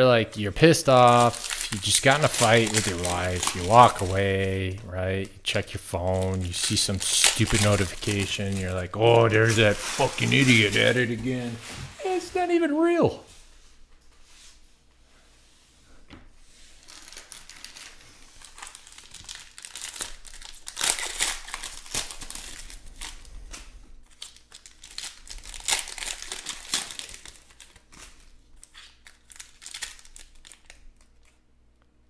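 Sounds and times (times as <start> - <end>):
card pack wrappers crinkling: 0.4 - 13.0, 16.8 - 31.4.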